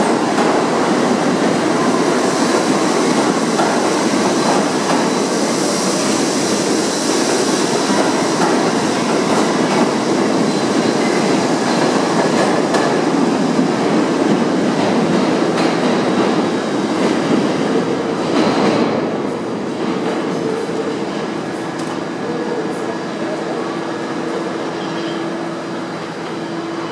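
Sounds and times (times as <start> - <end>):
subway train wheels clattering: 0.0 - 26.9.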